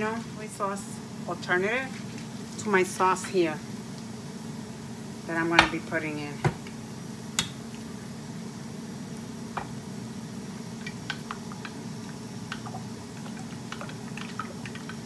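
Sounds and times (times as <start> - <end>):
air fryer fan hum: 0.0 - 15.0.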